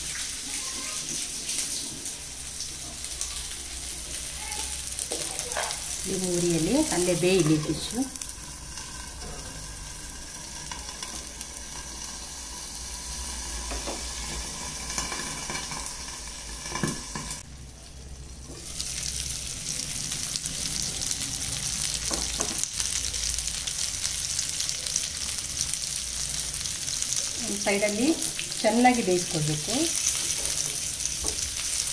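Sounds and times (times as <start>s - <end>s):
fish sizzling in hot oil: 0.0s - 31.9s.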